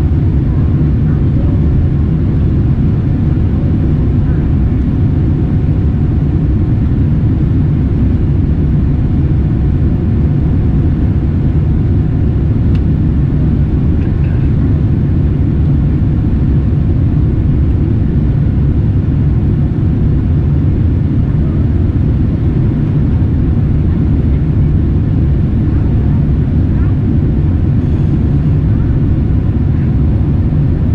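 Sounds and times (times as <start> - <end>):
airplane cabin engine rumble: 0.0 - 30.9.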